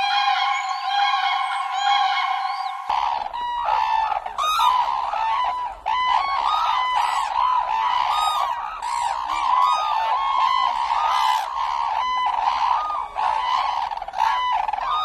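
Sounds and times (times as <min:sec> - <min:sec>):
cranes calling: 0:00.0 - 0:15.0
group of cranes calling together: 0:00.0 - 0:15.0.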